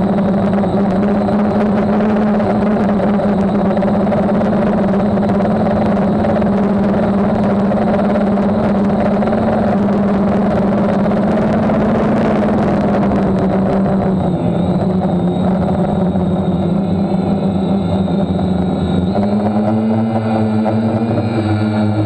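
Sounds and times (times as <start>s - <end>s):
drone motors and propellers humming: 0.0s - 22.0s.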